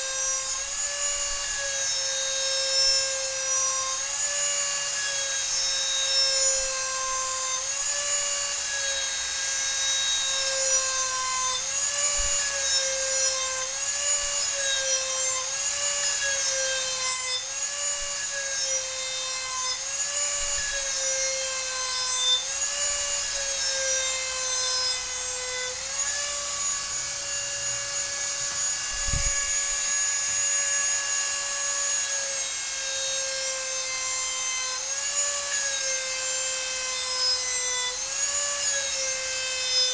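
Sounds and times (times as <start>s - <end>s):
rotary tool grinding metal blade: 0.0s - 39.9s.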